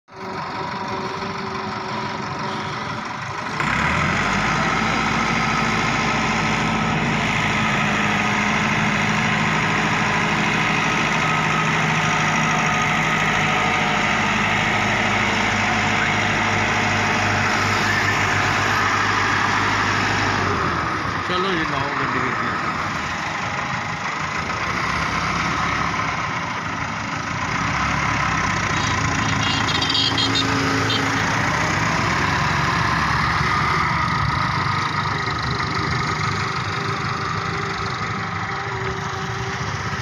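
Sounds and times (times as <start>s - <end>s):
tractor diesel engine running: 0.1s - 40.0s.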